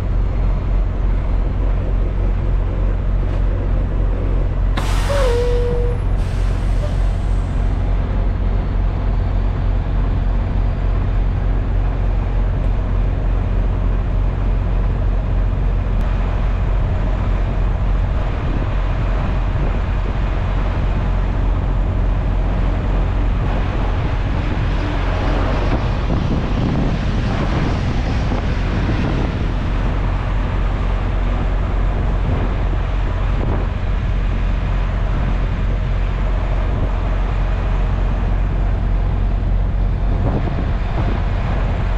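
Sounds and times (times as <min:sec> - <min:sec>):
road noise: 0:00.0 - 0:41.9
truck diesel engine running: 0:00.0 - 0:41.9.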